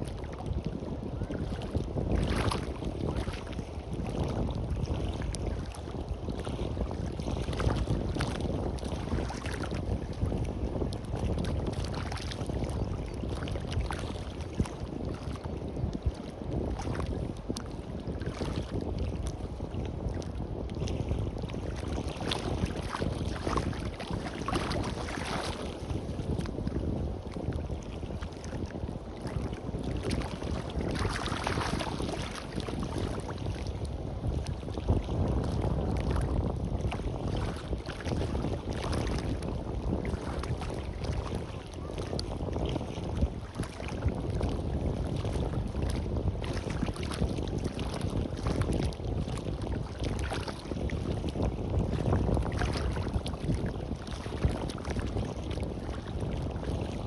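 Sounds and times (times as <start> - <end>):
sea surf washing on beach: 0.0 - 57.0
wind rumbling on microphone: 0.0 - 57.0.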